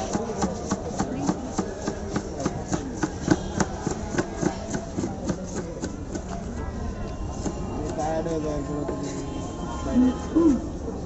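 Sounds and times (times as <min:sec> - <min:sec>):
low street chatter: 0:00.0 - 0:11.0.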